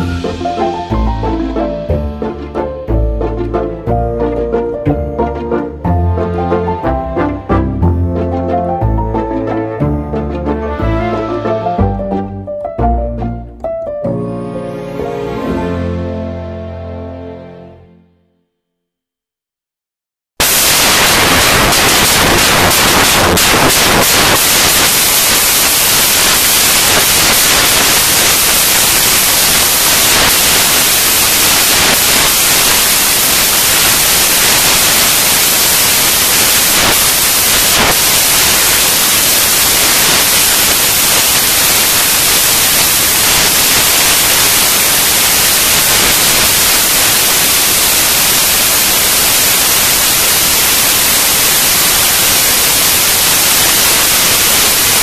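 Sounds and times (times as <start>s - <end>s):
loud static hiss: 0.0s - 12.3s, 20.4s - 55.0s.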